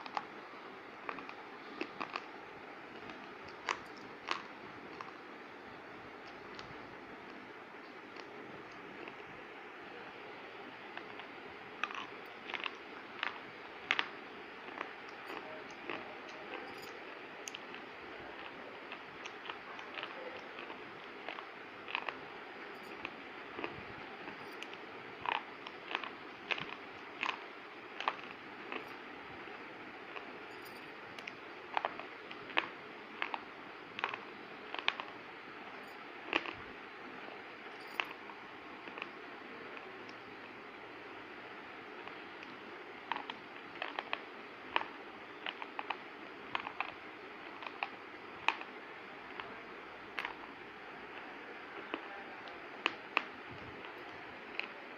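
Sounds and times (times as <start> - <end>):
person chewing crunchy food: 0.0 - 9.5, 10.9 - 36.8, 42.0 - 54.9.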